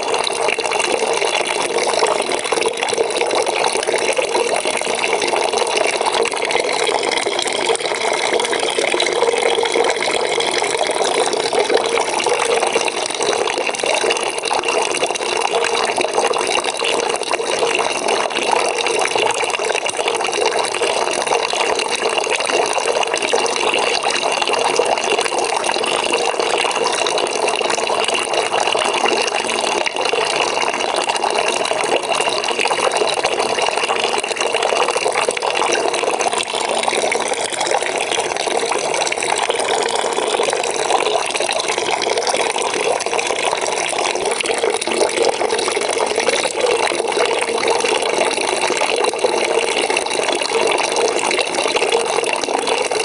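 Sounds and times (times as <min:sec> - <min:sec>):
water pouring into a bucket: 0:00.0 - 0:53.0.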